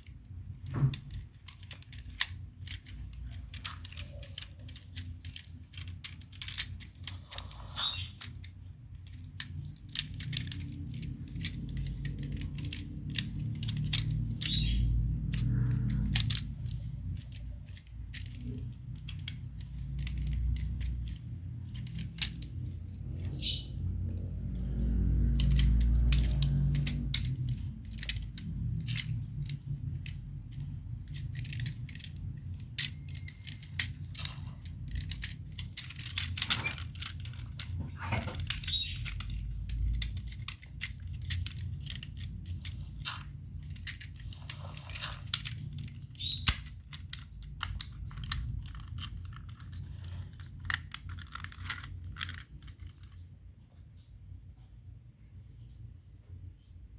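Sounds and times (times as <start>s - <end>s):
plastic toy parts clicking: 0.0s - 53.2s
low steady hum: 0.0s - 56.9s.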